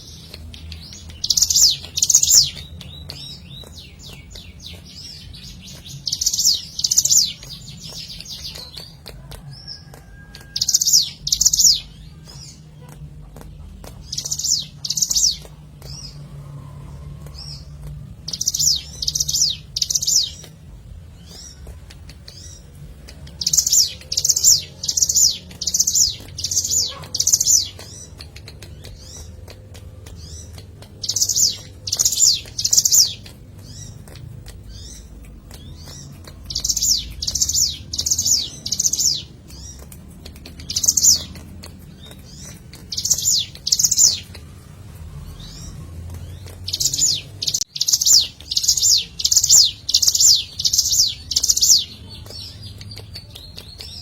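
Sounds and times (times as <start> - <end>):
bird chirping rapidly: 0.0 - 16.3, 16.9 - 54.0.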